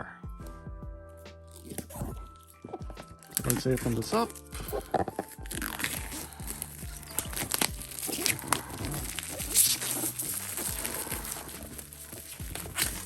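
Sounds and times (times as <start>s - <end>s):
packaging crinkling and tearing: 1.5s - 13.0s.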